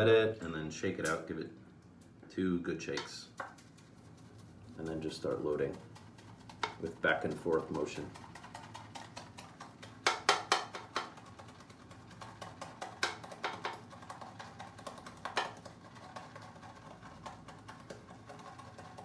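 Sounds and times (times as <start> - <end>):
brush knocking plastic bowl: 3.0 - 19.0
shaving brush scrubbing soap: 3.3 - 19.0.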